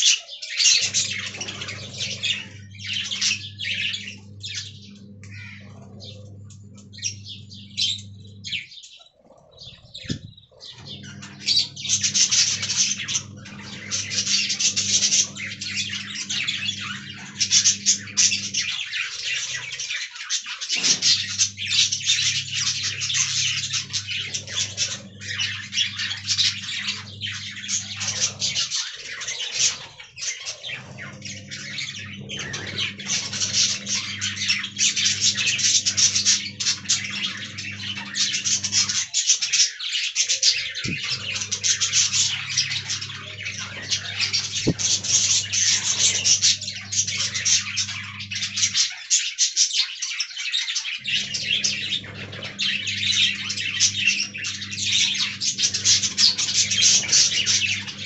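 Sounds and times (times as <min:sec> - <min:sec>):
budgerigars chattering and warbling: 0:00.0 - 0:58.0
steady low hum: 0:00.6 - 0:39.6, 0:40.2 - 0:48.9, 0:51.0 - 0:58.0.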